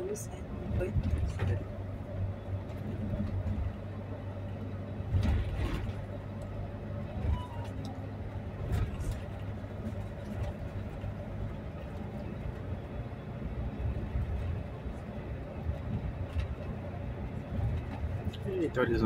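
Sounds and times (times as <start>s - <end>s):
bus engine and road drone: 0.0s - 19.0s.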